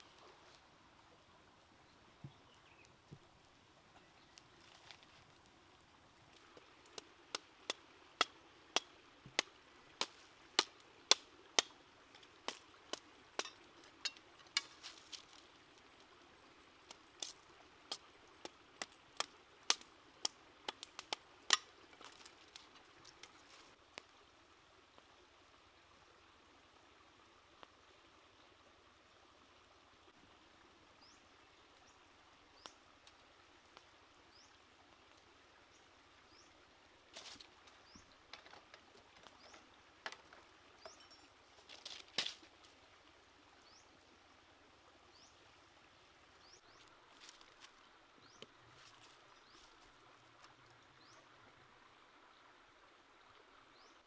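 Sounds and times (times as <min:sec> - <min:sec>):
faint stream running: 0:00.0 - 0:54.0.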